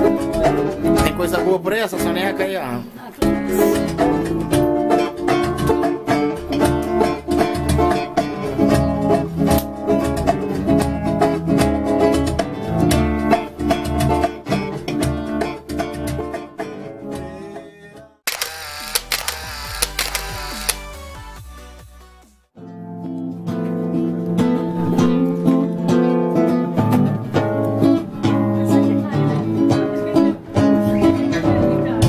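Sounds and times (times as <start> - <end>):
plucked string instrumental music: 0.0 - 17.2, 22.6 - 32.0.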